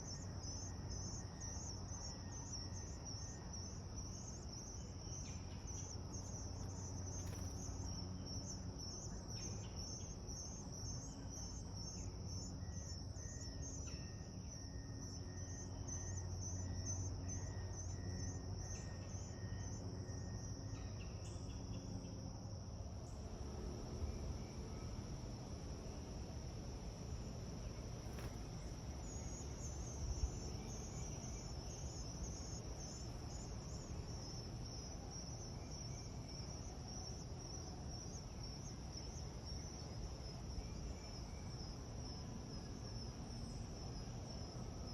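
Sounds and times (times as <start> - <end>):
insects trilling: 0.0 - 44.9
low background hum: 0.0 - 44.9.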